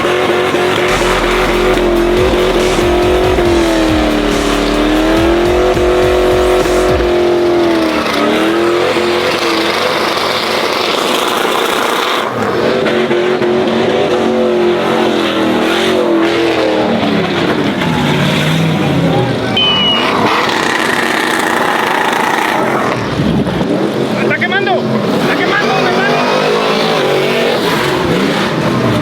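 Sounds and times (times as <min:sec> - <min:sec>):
engine at high revs: 0:00.0 - 0:29.0
tires spinning: 0:00.0 - 0:29.0.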